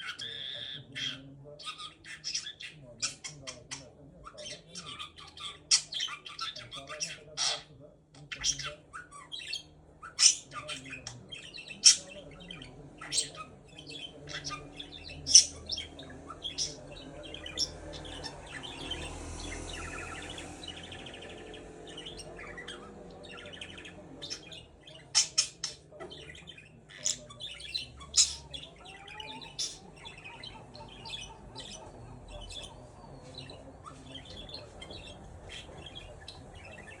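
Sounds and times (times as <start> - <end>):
budgerigar chirping: 0.0 - 37.0
soft budgerigar chatter: 0.0 - 37.0.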